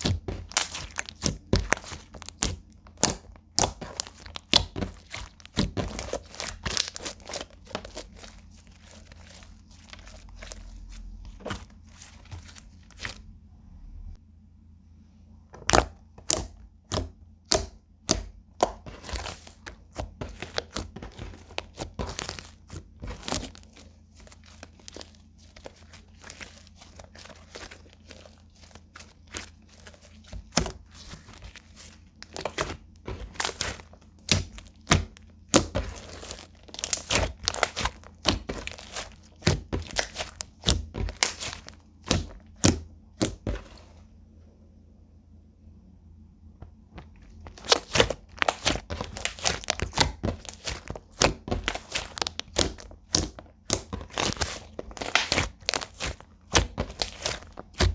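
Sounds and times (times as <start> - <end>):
slime kneaded with sticky pops: 0.0 - 13.3, 15.5 - 44.1, 46.5 - 57.9.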